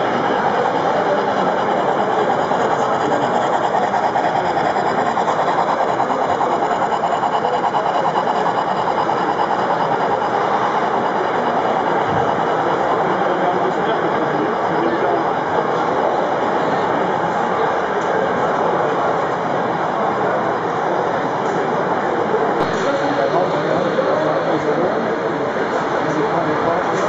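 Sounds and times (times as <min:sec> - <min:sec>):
model train rattling on track: 0:00.0 - 0:27.0.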